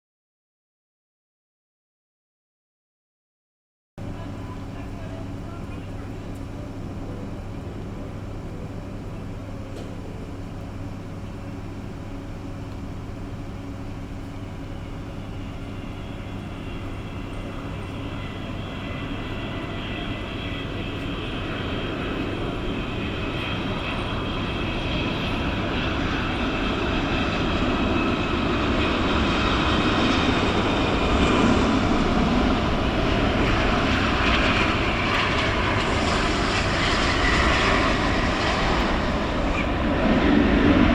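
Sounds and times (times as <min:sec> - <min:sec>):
jet engines rumbling and whining: 0:04.0 - 0:40.9.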